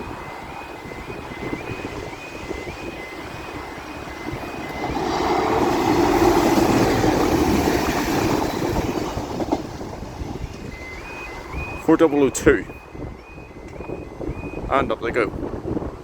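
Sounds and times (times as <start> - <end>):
diesel train passing: 0.0 - 13.4
wheels rattling on rails: 0.0 - 14.0
two-tone crossing warning alarm: 0.0 - 16.0.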